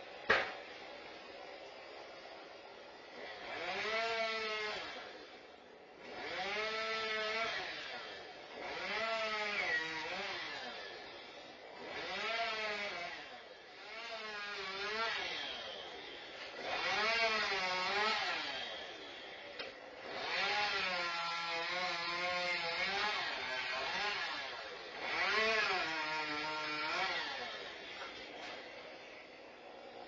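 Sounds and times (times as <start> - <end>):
chainsaw revving: 3.1 - 5.3, 6.0 - 28.7.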